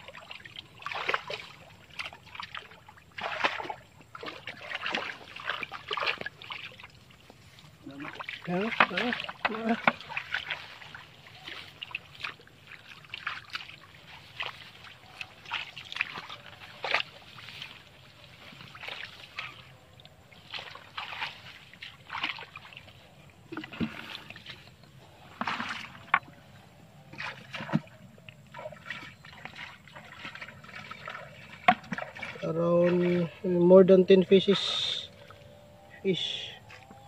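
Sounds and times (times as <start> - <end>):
hands splashing in muddy water: 0.0 - 26.4, 27.0 - 33.6.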